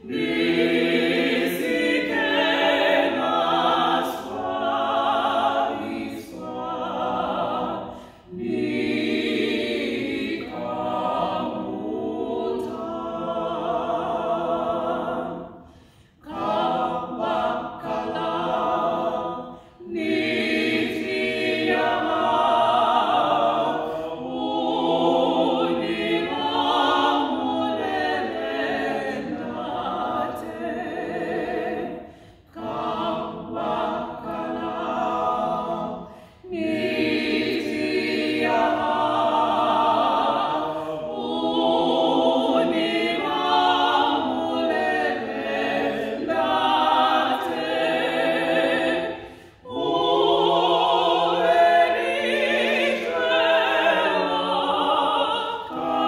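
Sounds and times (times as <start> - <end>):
vocal group singing a cappella: 0.0 - 56.0.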